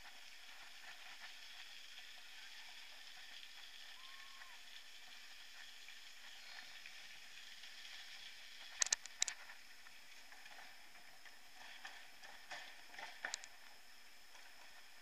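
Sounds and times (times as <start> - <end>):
mountain bike rolling hiss: 0.0 - 15.0.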